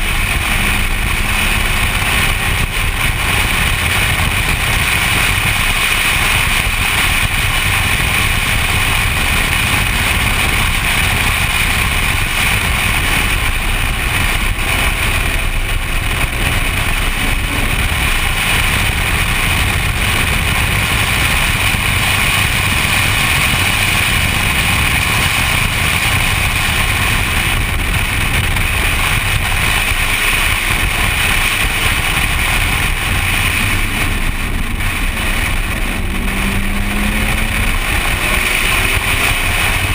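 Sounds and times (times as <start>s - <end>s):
car engine running: 0.0s - 39.9s
wind rush and buffeting: 0.0s - 39.9s.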